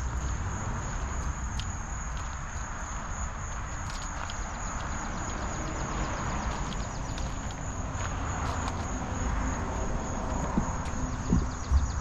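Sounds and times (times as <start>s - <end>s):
constant low rumble: 0.0s - 12.0s
insects trilling: 0.0s - 12.0s.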